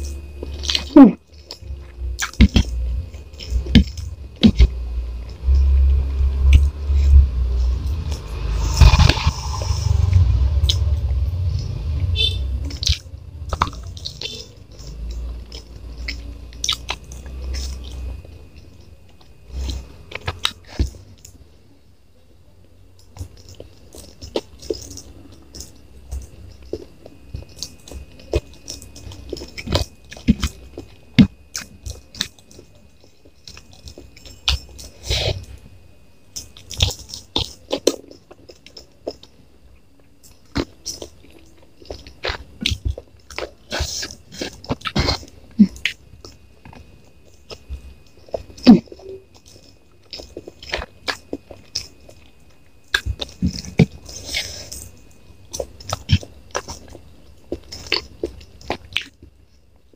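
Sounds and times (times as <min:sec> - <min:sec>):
chewing and biting: 0:00.0 - 0:21.4, 0:23.0 - 0:35.7, 0:36.4 - 0:59.4.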